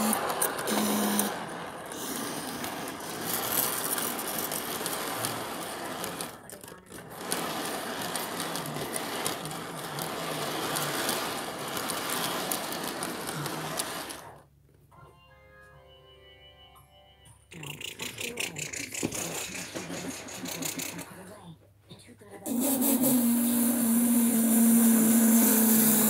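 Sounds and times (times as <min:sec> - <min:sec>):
model train wheels clattering: 0:00.0 - 0:14.4, 0:17.8 - 0:21.2, 0:22.5 - 0:26.0.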